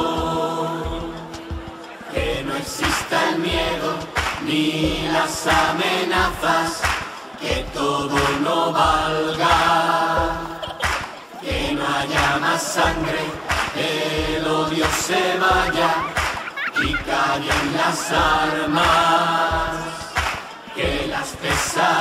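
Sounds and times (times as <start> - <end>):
choir singing: 0.0 - 22.0
instrumental backing with steady beat: 0.0 - 22.0.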